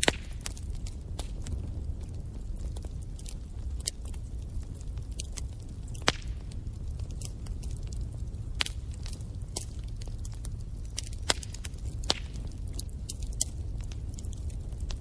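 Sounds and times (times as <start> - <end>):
fire flames rumbling: 0.0 - 15.0
wood fire crackles and pops: 0.0 - 15.0.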